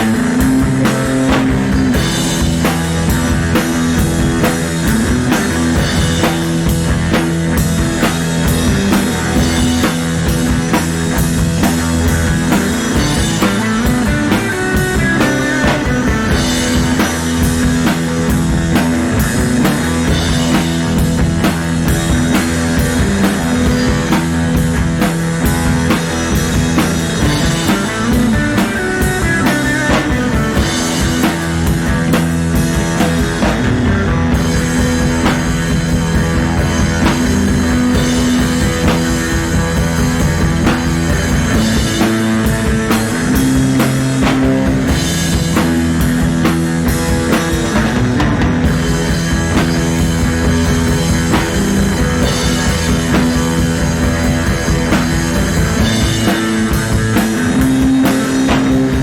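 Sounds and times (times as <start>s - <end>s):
drum kit: 0.0s - 59.0s
electric guitar: 0.0s - 59.0s
psychedelic rock music: 0.0s - 59.0s.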